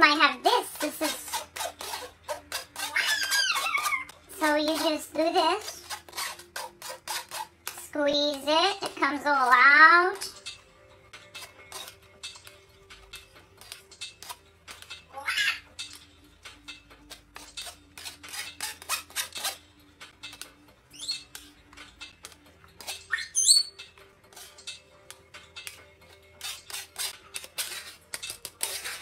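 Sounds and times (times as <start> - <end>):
metal spoon scraping mesh strainer: 0.5 - 10.6, 11.2 - 15.1, 15.7 - 29.0.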